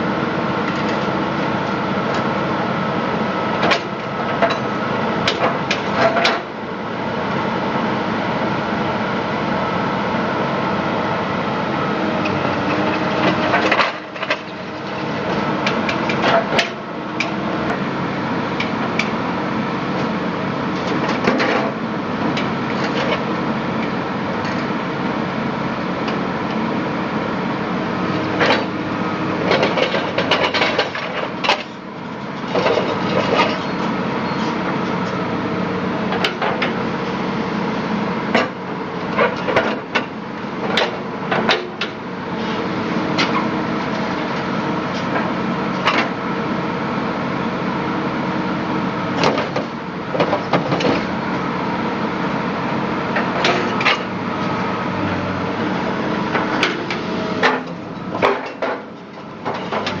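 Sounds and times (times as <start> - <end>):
engine running: 0.0 - 60.0.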